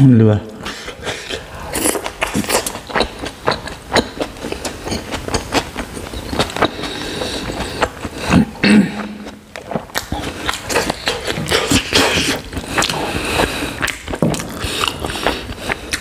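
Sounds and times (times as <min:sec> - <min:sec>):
wet chewing and lip-smacking: 0:00.6 - 0:16.0.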